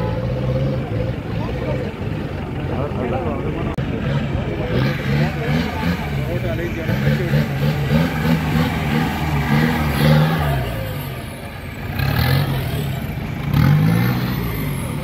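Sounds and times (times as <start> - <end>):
jeep engine revving: 0.0 - 15.0.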